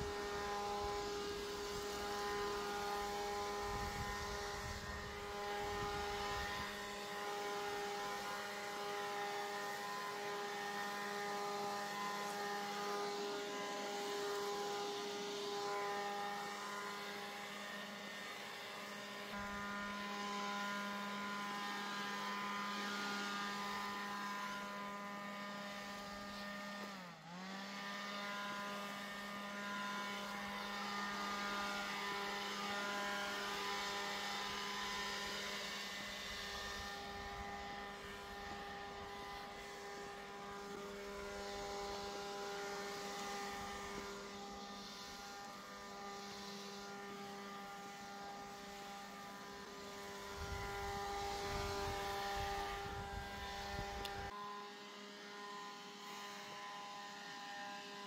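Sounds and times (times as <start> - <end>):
leaf blower whining: 0.0 - 58.0.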